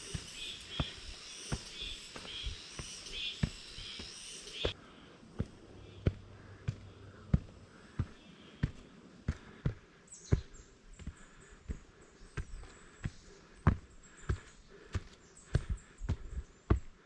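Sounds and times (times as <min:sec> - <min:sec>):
footsteps walking: 0:00.0 - 0:16.9.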